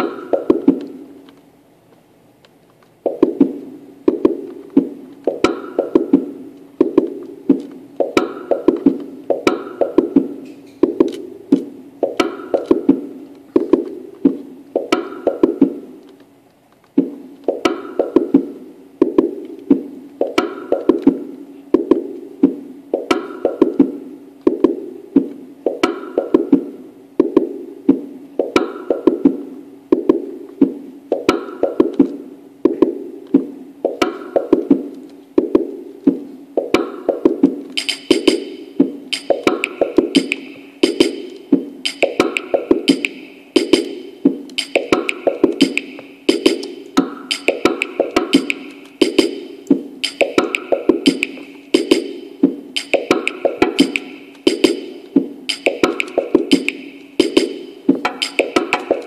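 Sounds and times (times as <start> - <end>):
looping electronic notes: 0.0 - 1.3, 3.0 - 16.1, 16.9 - 59.0.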